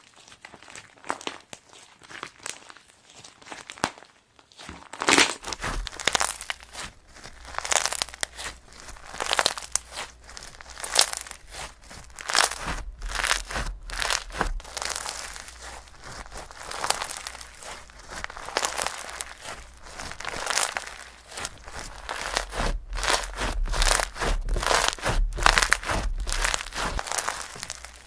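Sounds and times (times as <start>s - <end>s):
crinkling handling noise: 0.0s - 28.0s.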